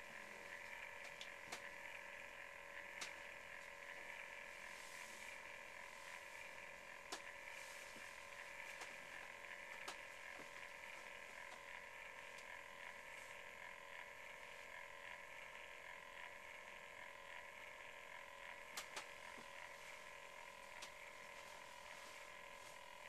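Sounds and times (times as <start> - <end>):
steady electronic hum: 0.0 - 23.0.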